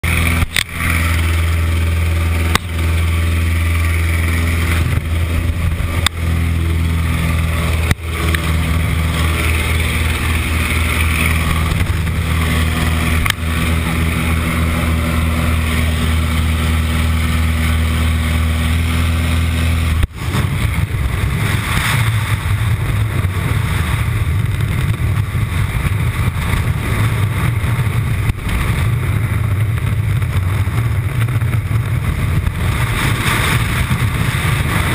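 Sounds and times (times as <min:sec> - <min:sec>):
aircraft engine droning: 0:00.0 - 0:34.9
wind rushing on microphone: 0:00.0 - 0:34.9.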